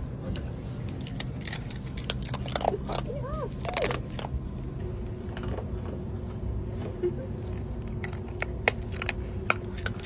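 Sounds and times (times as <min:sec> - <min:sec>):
steady low hum: 0:00.0 - 0:10.0
sea otter crunching food: 0:00.1 - 0:06.6, 0:07.6 - 0:10.0.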